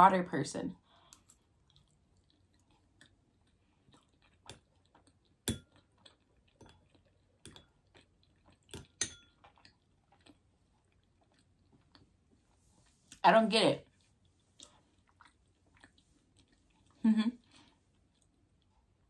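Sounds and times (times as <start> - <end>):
chewing soft food: 0.8 - 13.2, 13.8 - 19.0.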